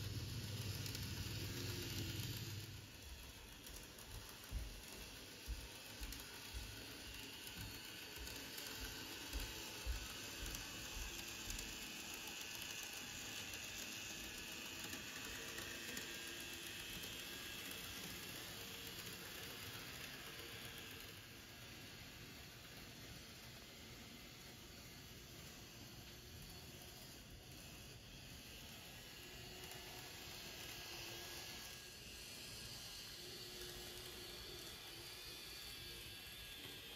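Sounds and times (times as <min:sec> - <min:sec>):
model train motor whir: 0:00.0 - 0:36.9.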